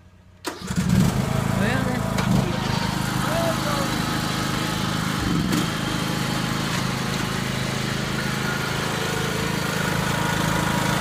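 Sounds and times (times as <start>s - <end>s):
lawn mower engine running: 0.3s - 11.0s.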